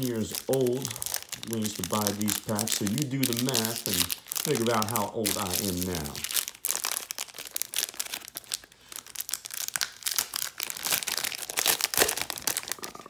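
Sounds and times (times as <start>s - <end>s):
paper wrapper tearing: 0.0s - 13.0s.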